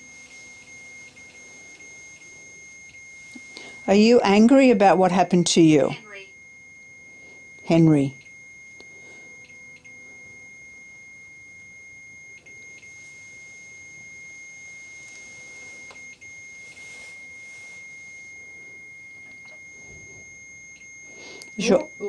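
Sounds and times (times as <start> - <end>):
steady high electronic alarm tone: 0.0 - 22.0.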